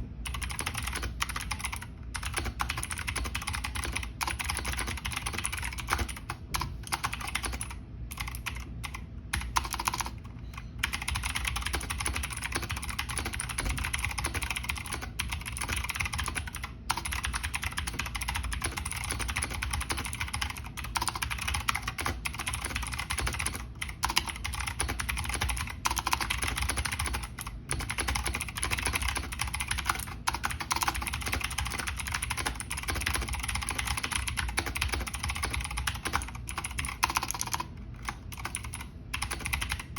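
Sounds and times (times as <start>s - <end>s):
mechanical keyboard typing: 0.3s - 39.9s.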